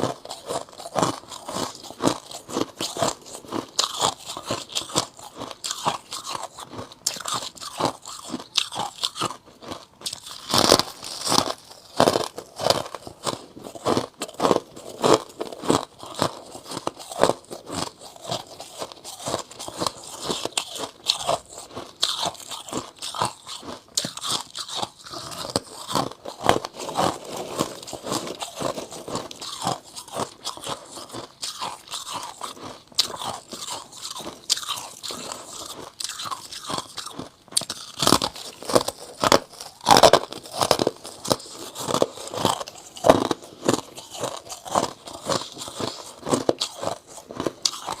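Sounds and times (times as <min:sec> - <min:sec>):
crisp crunches of frost being chewed: 0:00.0 - 0:48.0.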